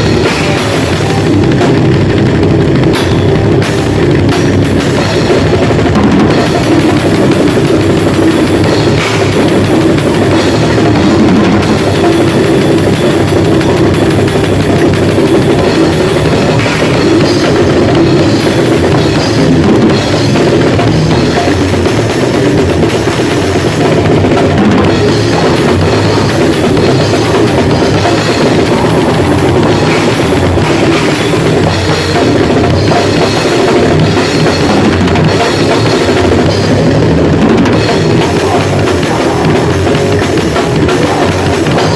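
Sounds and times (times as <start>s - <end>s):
bass drum and cymbals: 0.0s - 41.9s
loud grindcore band playing: 0.0s - 41.9s.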